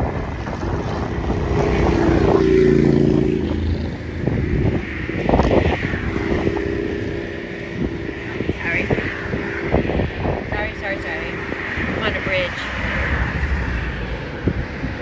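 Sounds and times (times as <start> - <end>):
vehicle engine hum: 0.0 - 15.0
wind buffeting microphone: 0.0 - 15.0.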